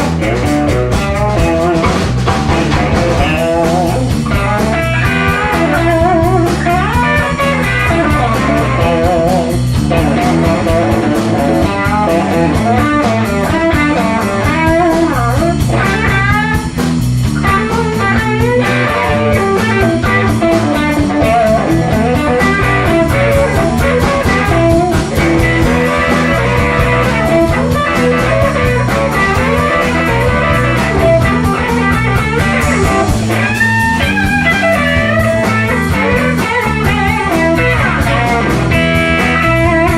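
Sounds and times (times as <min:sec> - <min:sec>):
bent guitar lead line: 0:00.0 - 0:39.9
drums: 0:00.0 - 0:39.9
electric blues band playing: 0:00.0 - 0:39.9
walking bass line: 0:00.0 - 0:39.9.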